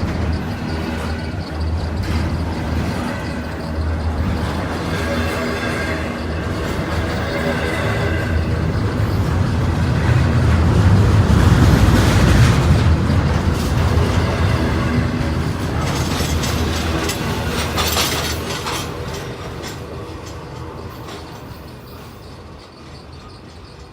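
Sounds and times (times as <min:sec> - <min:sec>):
train cars rumbling past: 0:00.0 - 0:23.9
wheels clicking over rail joints: 0:00.0 - 0:23.9.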